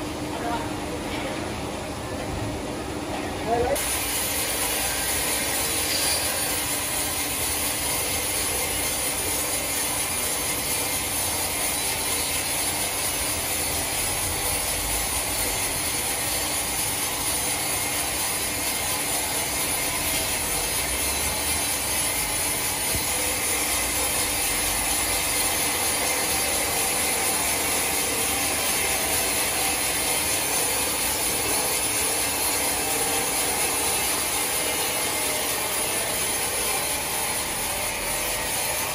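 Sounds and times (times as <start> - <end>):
band saw cutting log: 3.8 - 38.9.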